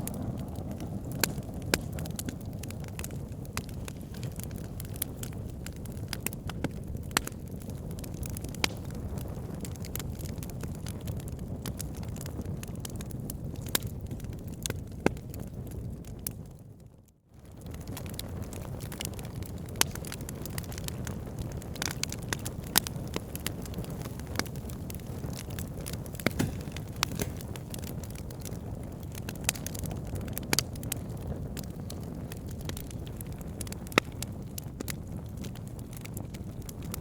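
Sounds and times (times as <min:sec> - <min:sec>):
wood logs crackling and popping: 0:00.0 - 0:16.6, 0:17.4 - 0:37.0
low rumble of flames: 0:00.0 - 0:37.0.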